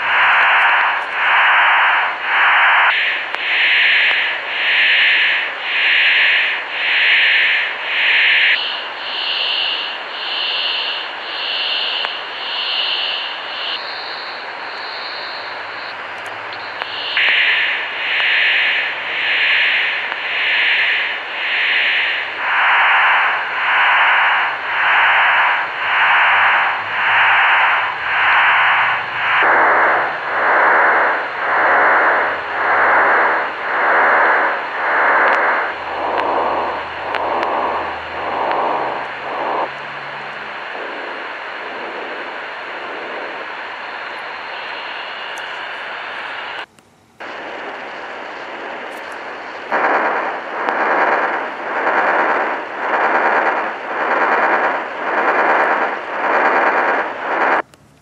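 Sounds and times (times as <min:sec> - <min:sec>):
hissing radio data signal warping: 0:00.0 - 0:58.0.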